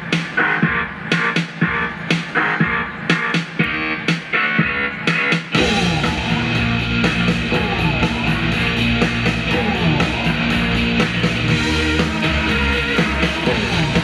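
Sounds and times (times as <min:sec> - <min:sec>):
rock music with heavy bass: 0:00.0 - 0:14.0.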